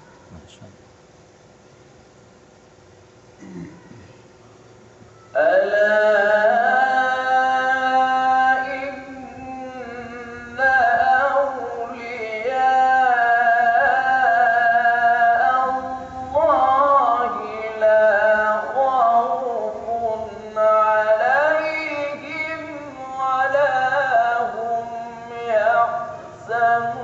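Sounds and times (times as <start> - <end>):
man chanting melodically: 5.2 - 27.0.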